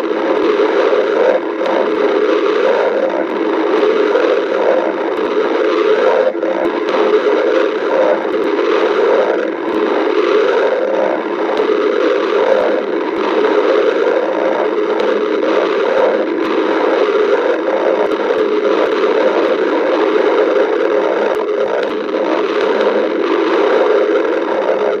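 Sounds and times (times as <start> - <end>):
stomach growling and gurgling: 0.0 - 25.0.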